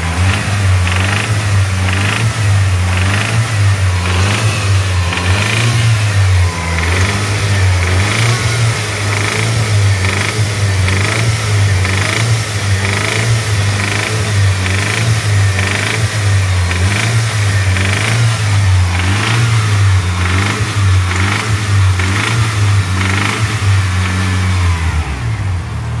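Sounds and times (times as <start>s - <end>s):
high-pitched engine noise: 0.0s - 25.8s
car engine humming: 0.0s - 26.0s.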